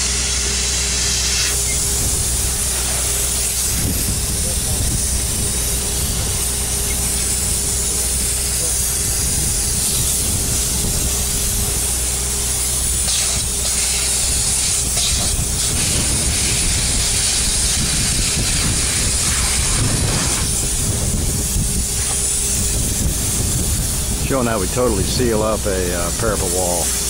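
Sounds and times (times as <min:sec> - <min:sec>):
foam spray gun hissing: 0:00.0 - 0:27.0
steady low hum: 0:00.0 - 0:27.0.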